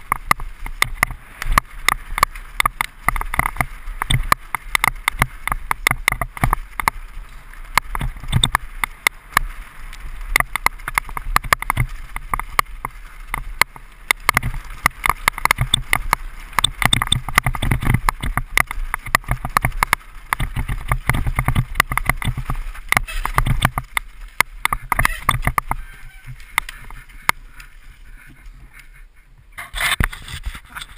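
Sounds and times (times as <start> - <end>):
mountain bike rattling and clattering: 0.0 - 29.0
tyres rumbling on dirt: 0.0 - 30.9
wind: 0.0 - 30.9.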